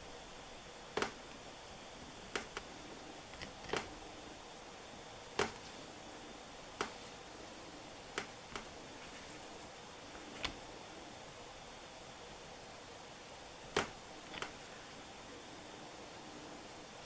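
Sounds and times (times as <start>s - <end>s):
quiet background hiss: 0.0s - 17.0s.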